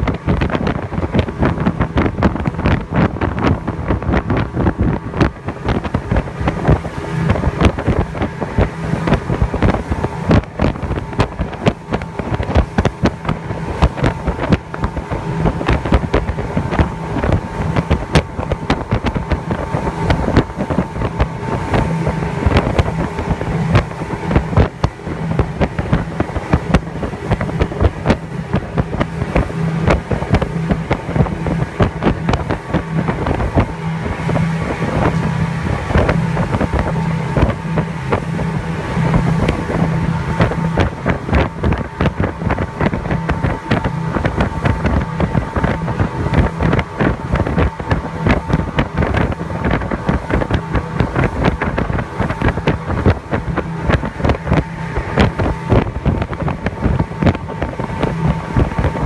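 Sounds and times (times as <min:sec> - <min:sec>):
hull slapping waves: 0:00.0 - 0:59.0
speedboat engine drone: 0:00.0 - 0:59.0
wind buffeting microphone: 0:00.0 - 0:59.0.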